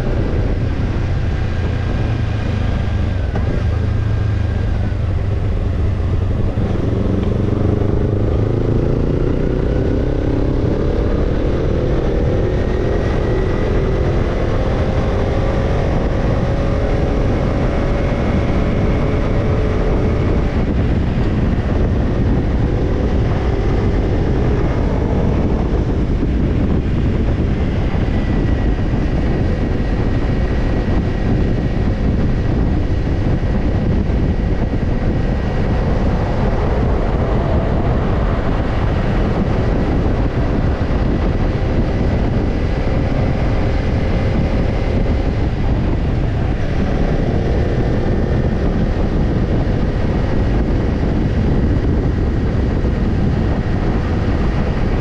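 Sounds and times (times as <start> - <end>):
motorcycle engine running: 0.0 - 55.0
wind rush on microphone: 0.0 - 55.0.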